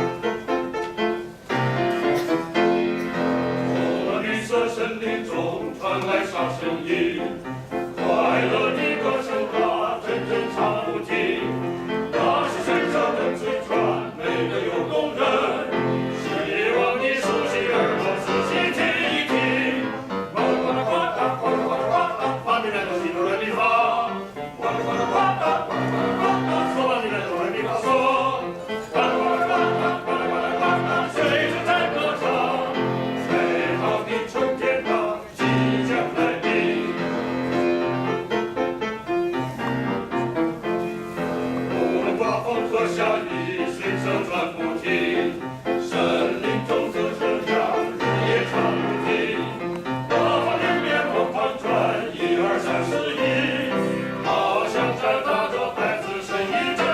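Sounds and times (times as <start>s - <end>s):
piano accompaniment: 0.0s - 56.9s
male chorus singing in harmony: 2.1s - 38.2s, 41.1s - 56.9s.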